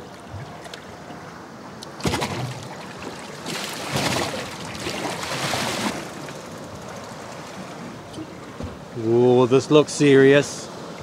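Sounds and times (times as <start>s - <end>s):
sea water sloshing around boat: 0.0s - 9.5s
rush of water: 0.0s - 11.0s.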